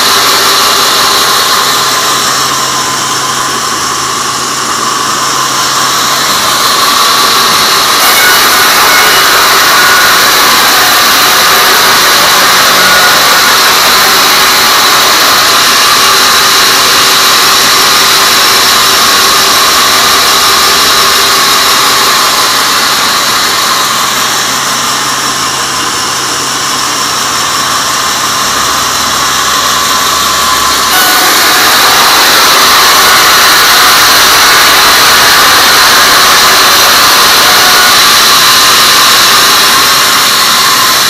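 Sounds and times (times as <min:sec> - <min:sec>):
band saw cutting log: 0:00.0 - 0:41.0.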